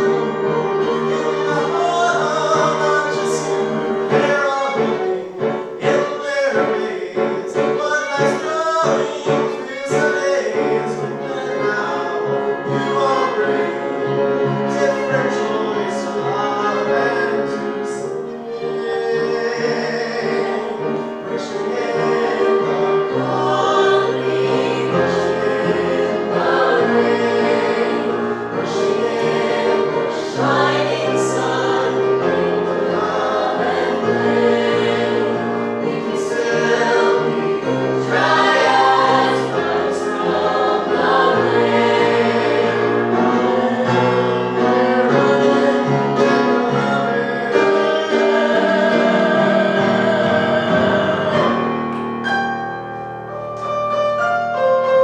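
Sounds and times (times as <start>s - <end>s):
voices singing in harmony: 0.0s - 52.1s
instrumental accompaniment: 0.0s - 55.0s.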